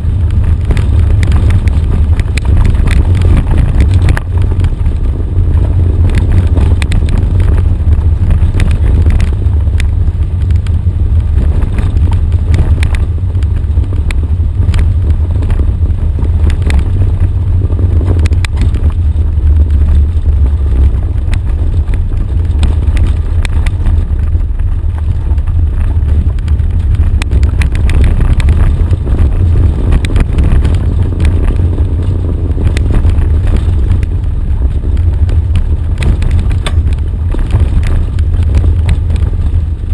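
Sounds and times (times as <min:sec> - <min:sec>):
gravel clicks and knocks: 0:00.0 - 0:39.9
vehicle engine rumble: 0:00.0 - 0:39.9
wind on camera: 0:00.0 - 0:39.9.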